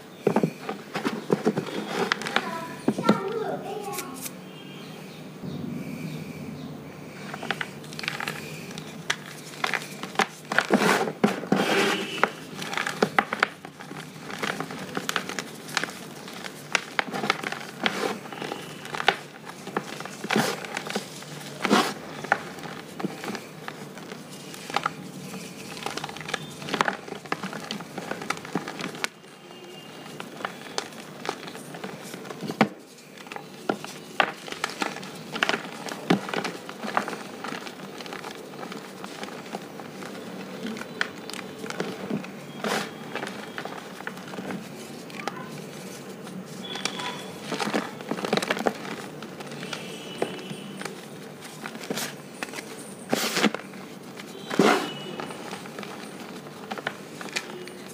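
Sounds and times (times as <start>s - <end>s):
powder crackling and crunching: 0.0s - 5.2s, 7.0s - 57.9s
soft powdery rustling: 7.0s - 57.9s.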